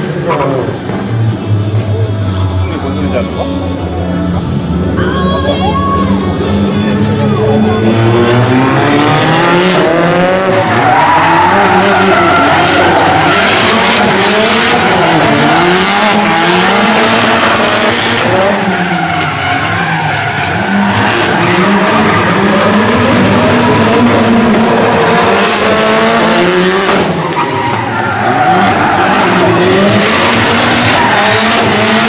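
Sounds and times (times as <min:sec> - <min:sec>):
car engines revving: 0:00.0 - 0:32.0
tyres squealing and skidding: 0:01.9 - 0:32.0.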